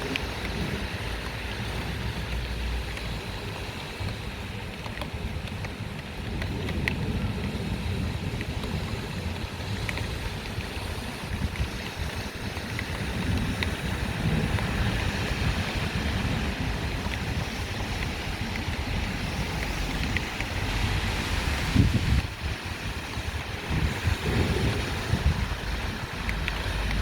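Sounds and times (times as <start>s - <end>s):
downpour: 0.0s - 27.0s
gusting wind on microphone: 0.0s - 27.0s.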